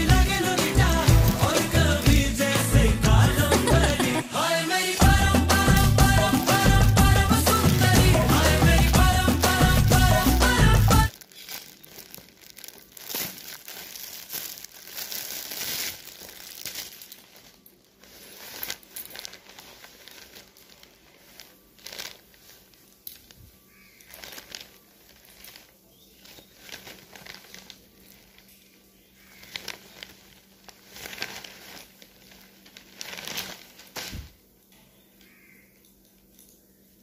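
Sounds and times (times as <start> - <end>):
plastic packaging crinkling: 0.0 - 4.0, 4.9 - 34.6.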